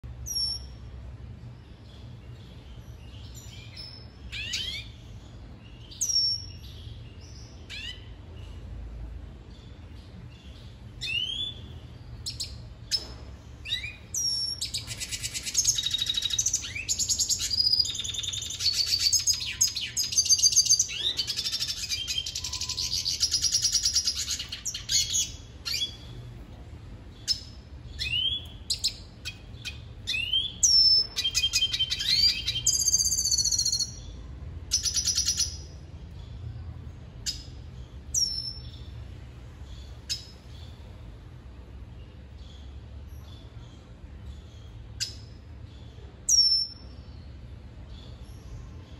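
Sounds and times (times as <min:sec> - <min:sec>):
bird twittering song: 0:00.0 - 0:48.9.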